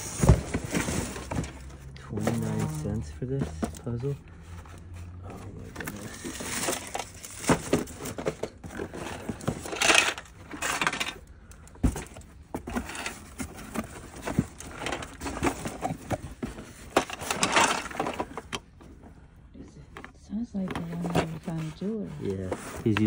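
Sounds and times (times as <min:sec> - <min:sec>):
cardboard boxes rustling and scraping: 0:00.0 - 0:19.2, 0:19.8 - 0:23.0.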